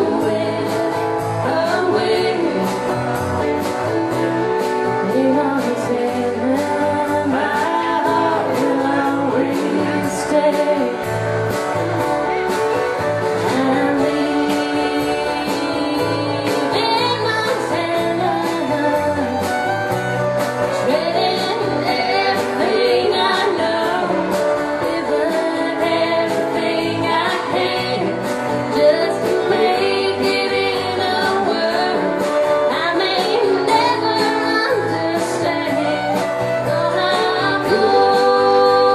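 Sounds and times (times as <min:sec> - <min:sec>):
person singing: 0:00.0 - 0:11.2, 0:13.4 - 0:38.9
guitar: 0:00.0 - 0:38.9.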